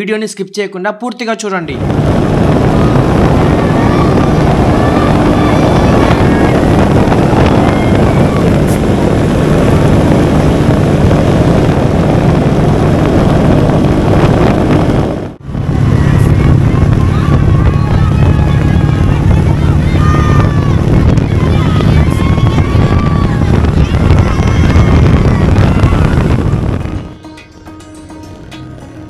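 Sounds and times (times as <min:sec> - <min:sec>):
wind noise on microphone: 0:01.7 - 0:29.0
motorcycle engine droning: 0:01.8 - 0:29.0.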